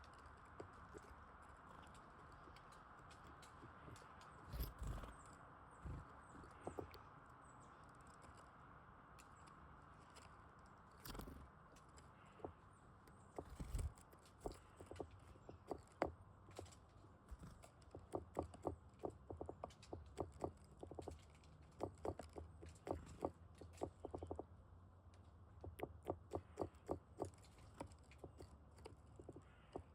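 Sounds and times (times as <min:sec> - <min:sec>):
birds pecking at seed: 0:00.0 - 0:29.9.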